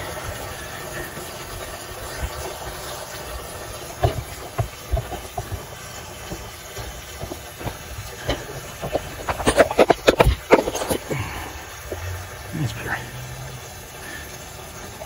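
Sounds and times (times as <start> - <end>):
hose water splashing into metal barrel: 0.0 - 15.0.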